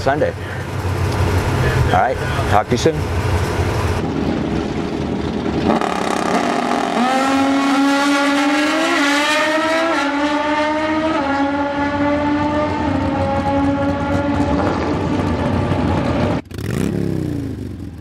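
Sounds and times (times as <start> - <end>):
motorcycles accelerating hard: 0.2 - 18.0.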